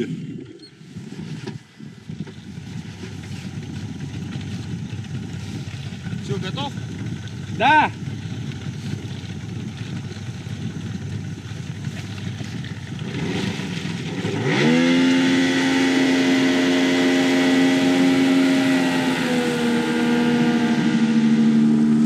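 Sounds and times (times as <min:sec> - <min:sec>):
boat motor revving: 0:02.5 - 0:22.0.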